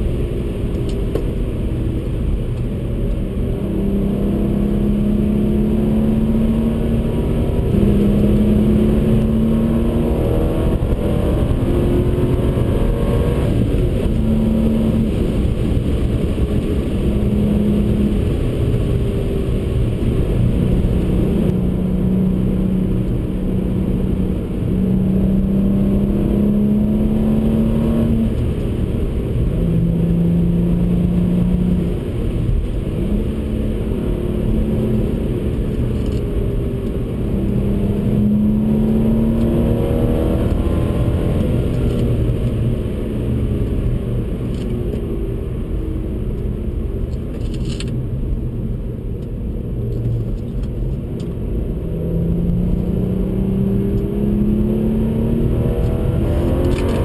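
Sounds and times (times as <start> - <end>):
car engine accelerating through gears: 0.0 - 57.0
tyre and road noise: 0.0 - 57.0.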